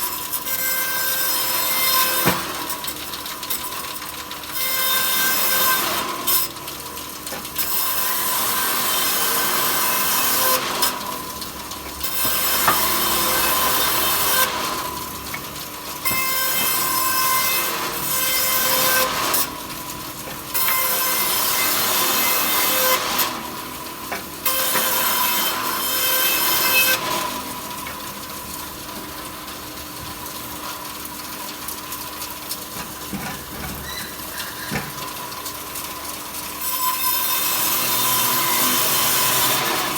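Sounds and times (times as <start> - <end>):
power saw cutting wood: 0.0 - 3.8, 4.5 - 6.6, 7.6 - 19.6, 20.2 - 28.0, 32.7 - 39.9.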